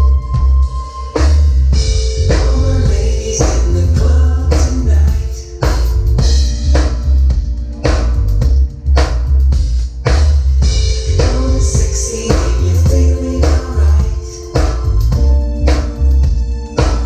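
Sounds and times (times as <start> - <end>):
drum kit hits: 0.0 - 17.0
heavy bass line: 0.0 - 17.0
held chords: 0.0 - 17.0.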